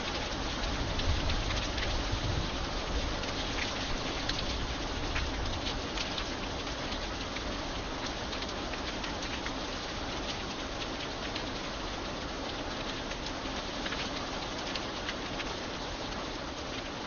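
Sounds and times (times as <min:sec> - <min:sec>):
light rain hissing: 0:00.0 - 0:17.0.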